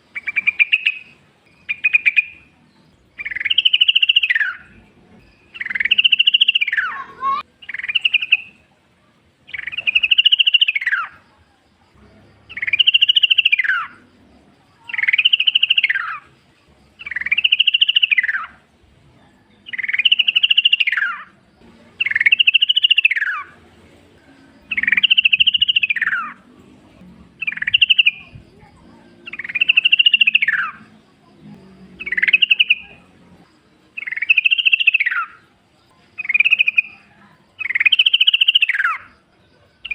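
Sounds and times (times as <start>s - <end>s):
bird singing bubbly phrases: 0.0s - 8.7s, 9.5s - 11.2s, 12.5s - 14.1s, 14.8s - 16.4s, 17.0s - 18.7s, 19.6s - 23.6s, 24.6s - 26.5s, 27.4s - 39.9s.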